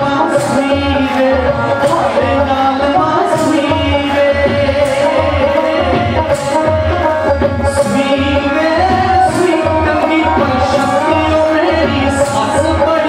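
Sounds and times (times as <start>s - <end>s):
dhol drum beating: 0.0s - 13.0s.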